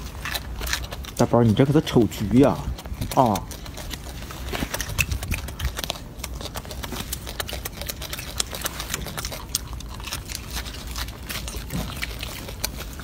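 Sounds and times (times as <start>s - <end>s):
fingers pulling at fruit: 0.0s - 13.0s
monkey chewing: 0.0s - 13.0s.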